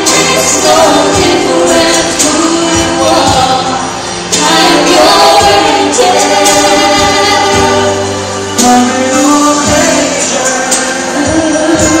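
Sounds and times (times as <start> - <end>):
man and woman singing duet: 0.0 - 12.0
musical accompaniment: 0.0 - 12.0.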